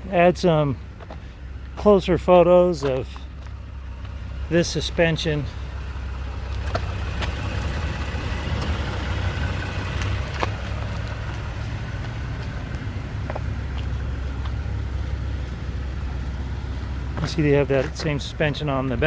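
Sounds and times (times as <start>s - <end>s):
engine idling hum: 0.0s - 19.0s.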